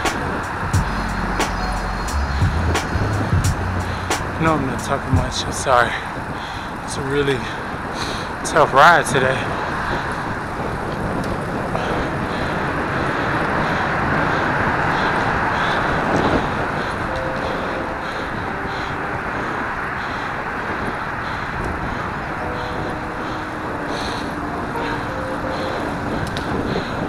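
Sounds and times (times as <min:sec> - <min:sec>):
bike tyre and road noise: 0:00.0 - 0:27.0
wind on microphone: 0:00.0 - 0:27.0.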